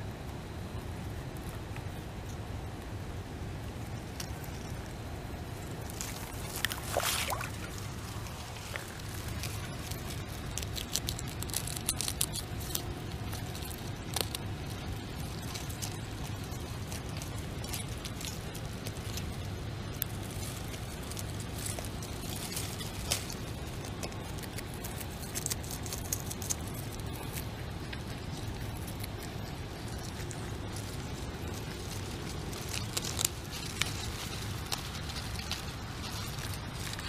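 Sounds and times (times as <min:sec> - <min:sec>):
crunchy clicks and crackles: 0:00.0 - 0:37.0
steady low rumble: 0:00.0 - 0:37.0
beaver chewing leafy plants: 0:03.7 - 0:37.0.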